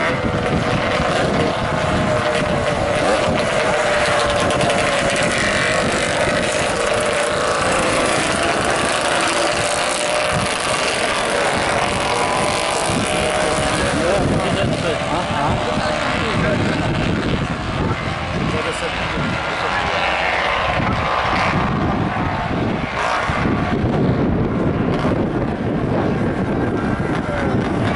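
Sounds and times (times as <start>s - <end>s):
motorcycles passing: 0.0s - 27.9s.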